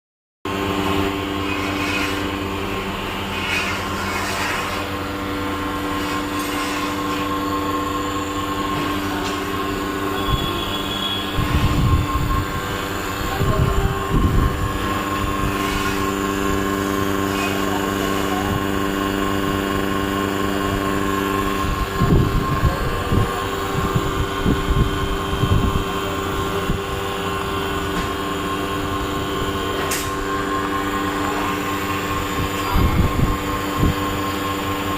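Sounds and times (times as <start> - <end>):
steady machine hum: 0.5 - 34.9.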